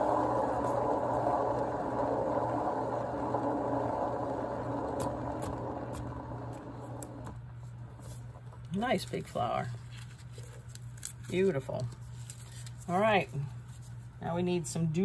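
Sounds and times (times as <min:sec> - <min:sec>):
canvas spinner whirring: 0:00.0 - 0:13.3.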